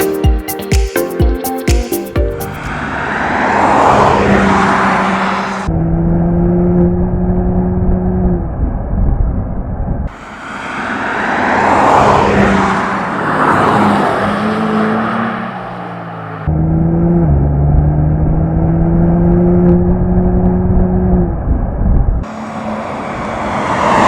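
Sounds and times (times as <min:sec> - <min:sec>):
road noise: 0:01.9 - 0:24.0
car engine running: 0:02.2 - 0:08.5, 0:10.1 - 0:24.0.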